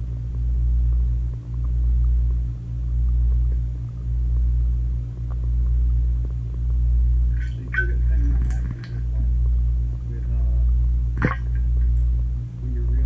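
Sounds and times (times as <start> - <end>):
low underwater rumble: 0.0 - 13.0.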